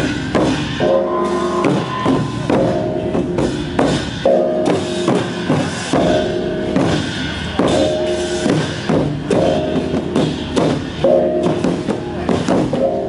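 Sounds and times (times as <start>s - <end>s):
barrel drums struck hard: 0.0s - 13.0s
bossed gongs ringing: 0.0s - 13.0s
hand cymbals: 0.0s - 13.0s.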